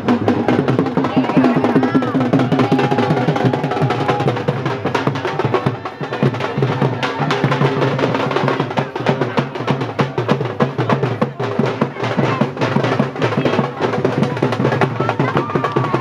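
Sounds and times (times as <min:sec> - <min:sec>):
fast drumming: 0:00.0 - 0:16.0.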